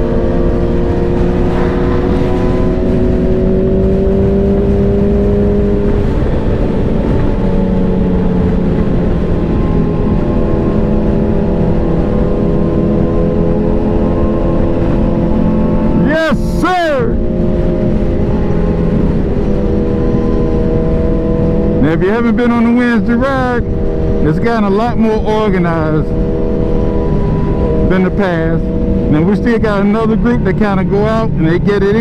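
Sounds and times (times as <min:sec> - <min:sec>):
motorcycle engine cruising: 0:00.0 - 0:32.0
wind rush: 0:00.0 - 0:32.0.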